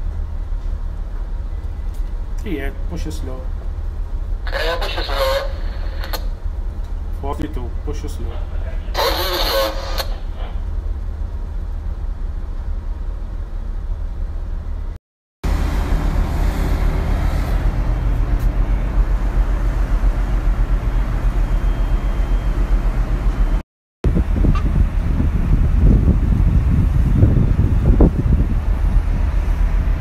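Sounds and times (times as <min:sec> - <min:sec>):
ship engines droning: 0:00.0 - 0:30.0.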